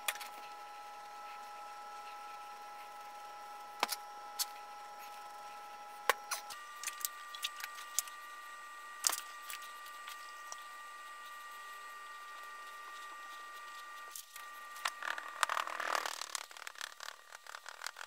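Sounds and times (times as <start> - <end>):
high-pitched electrical whine: 0.0 - 18.0.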